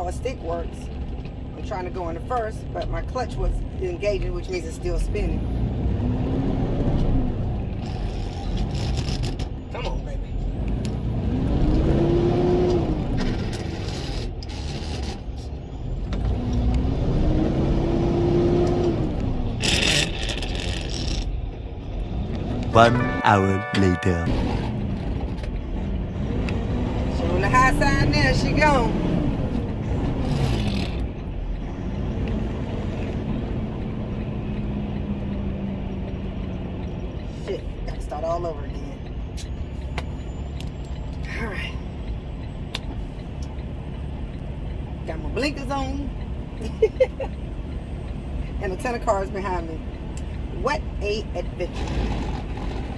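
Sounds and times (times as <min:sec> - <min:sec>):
diesel truck engine revving: 0:00.0 - 0:23.2, 0:24.3 - 0:52.9.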